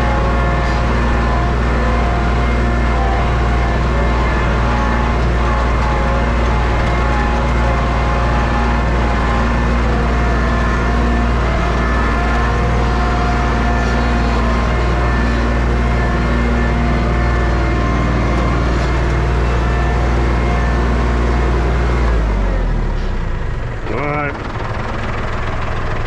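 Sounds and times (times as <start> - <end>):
tractor engine under load: 0.0 - 26.0.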